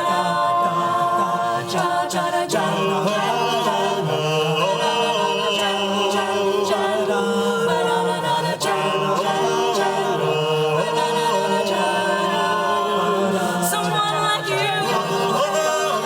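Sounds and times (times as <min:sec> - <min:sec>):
a cappella group singing: 0:00.0 - 0:16.0.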